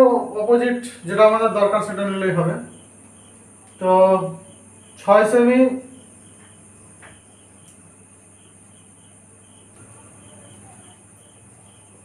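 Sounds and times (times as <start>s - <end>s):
faint crickets chirping: 0.0s - 12.0s
high-pitched insect trill: 0.0s - 12.0s
low room hum: 0.0s - 12.0s.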